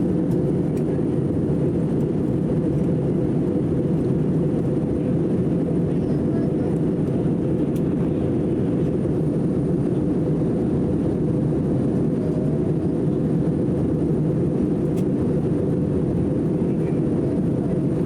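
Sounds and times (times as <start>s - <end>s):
jet engine cabin rush: 0.0s - 18.0s.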